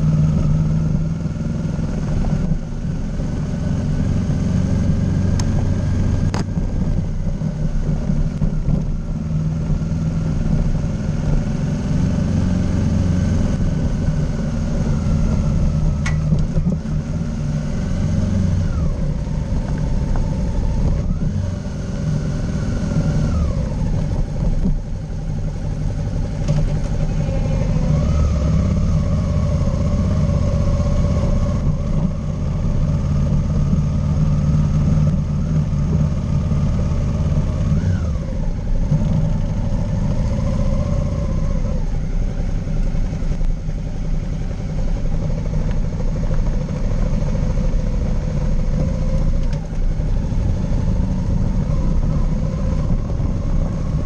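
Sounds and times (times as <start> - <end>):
motorcycle engine revving: 0.0 - 54.0
wind and road rumble: 0.0 - 54.0.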